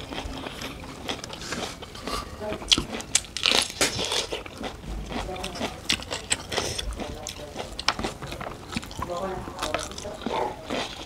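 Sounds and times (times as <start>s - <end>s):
crunchy chewing of leafy greens: 0.0s - 11.0s.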